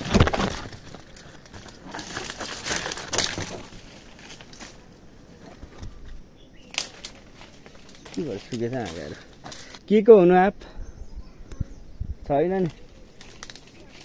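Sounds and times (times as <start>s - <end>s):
leaves and twigs rustling: 0.0s - 14.0s.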